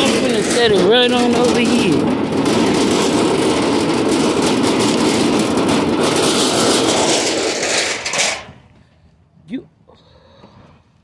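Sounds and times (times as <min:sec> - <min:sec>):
cart wheels rattling on asphalt: 0:00.0 - 0:08.9.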